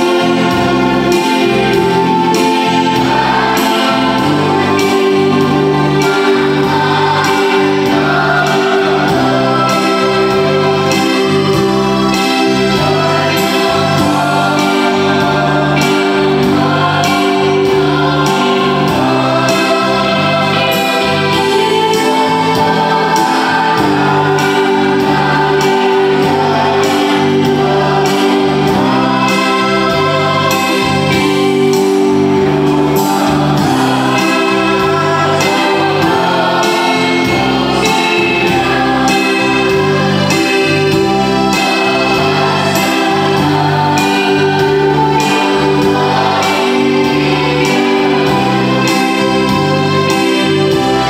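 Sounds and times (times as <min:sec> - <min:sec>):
choir singing: 0:00.0 - 0:51.0
keyboard: 0:00.0 - 0:51.0
steady beat: 0:00.0 - 0:51.0.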